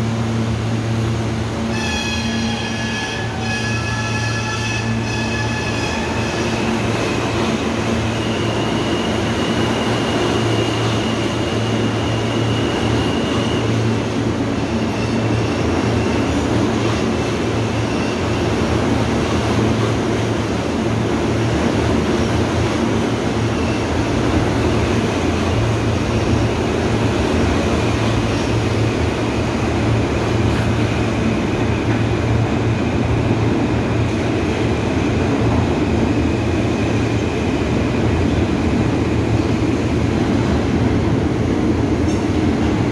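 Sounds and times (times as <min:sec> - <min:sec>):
subway train rumbling: 0:00.0 - 0:42.9.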